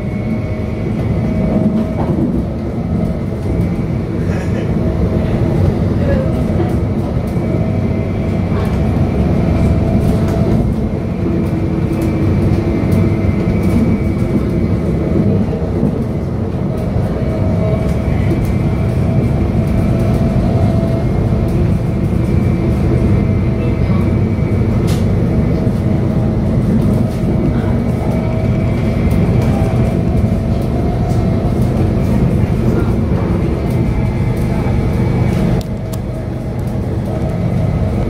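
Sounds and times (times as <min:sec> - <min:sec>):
train wheels rumbling on track: 0:00.0 - 0:38.0.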